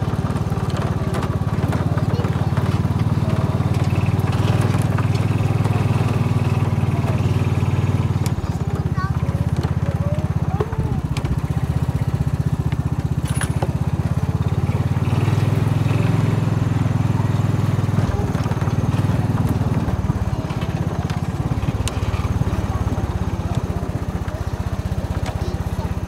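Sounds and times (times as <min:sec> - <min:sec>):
small engine pulsing: 0:00.0 - 0:26.0.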